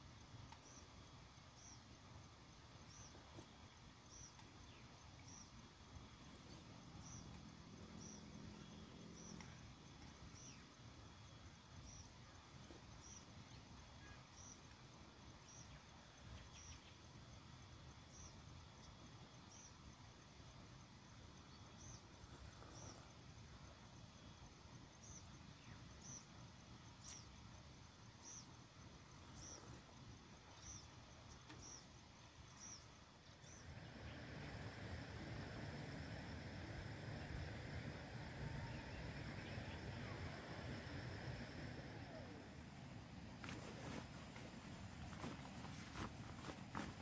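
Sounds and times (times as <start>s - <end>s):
insects chirping: 0.0s - 47.0s
low steady background noise: 0.0s - 47.0s.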